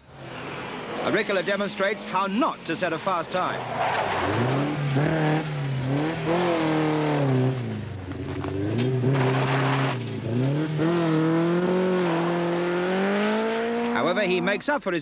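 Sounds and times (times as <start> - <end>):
rally car engine revving: 0.0 - 14.6.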